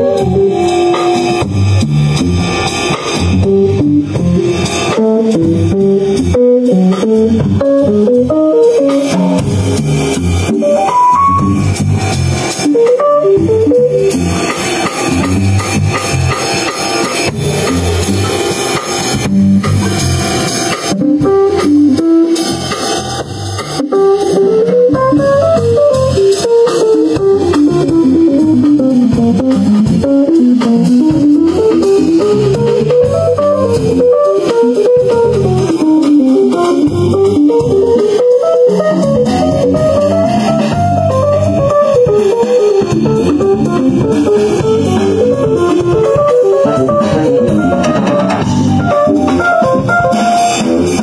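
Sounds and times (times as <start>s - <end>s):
live jazz band playing: 0.0s - 51.0s.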